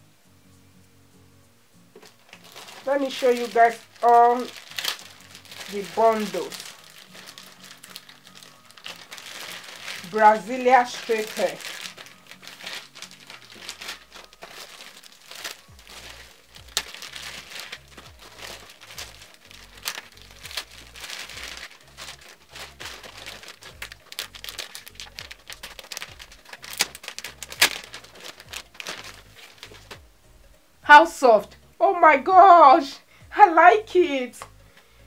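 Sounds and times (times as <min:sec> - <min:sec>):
quiet background music: 0:00.0 - 0:35.0
plastic bags crinkling: 0:02.0 - 0:30.1.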